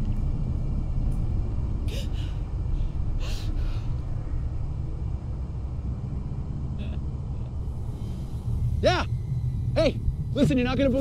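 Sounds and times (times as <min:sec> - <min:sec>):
deep steady rumble: 0:00.0 - 0:11.0.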